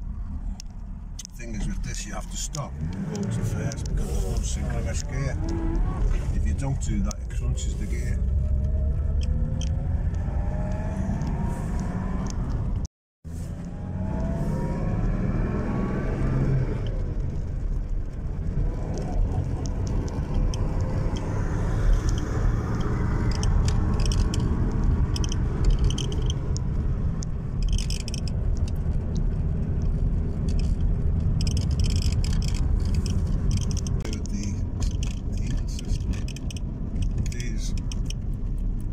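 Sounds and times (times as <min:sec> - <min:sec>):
road noise while cruising: 0:00.0 - 0:38.9
car engine accelerating: 0:01.2 - 0:38.9.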